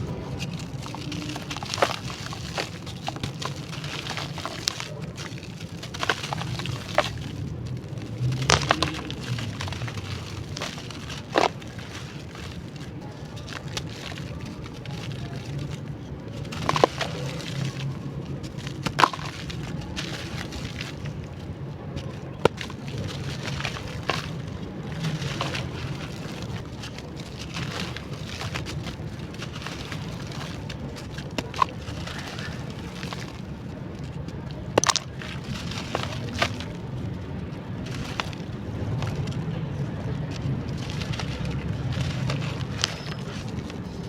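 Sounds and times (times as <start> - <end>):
clay chunks cracking: 0.0 - 44.0
low steady hum: 0.0 - 44.0.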